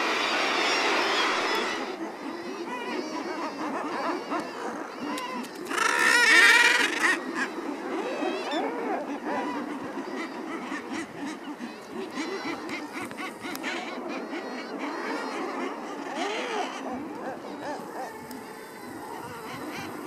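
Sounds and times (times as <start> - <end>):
seabird colony calling: 0.0 - 20.0.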